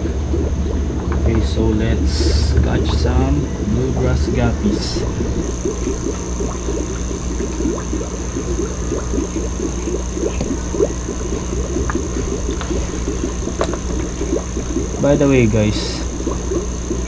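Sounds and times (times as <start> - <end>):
steady hum: 0.0 - 17.0
water sloshing and splashing: 0.0 - 17.0.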